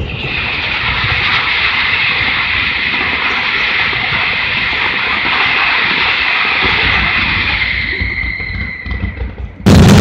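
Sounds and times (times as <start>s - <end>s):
firework fountain hissing: 0.0s - 10.0s.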